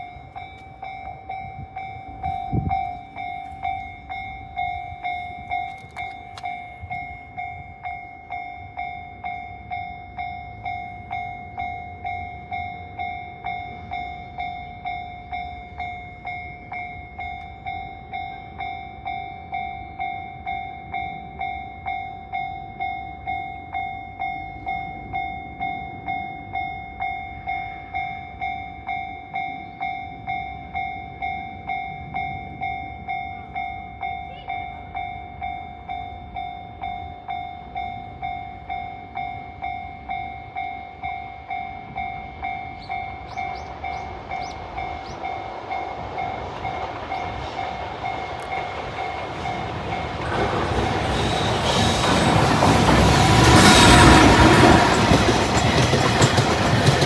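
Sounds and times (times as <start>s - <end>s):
approaching freight train: 0.0s - 57.0s
level-crossing warning bell: 0.0s - 57.0s.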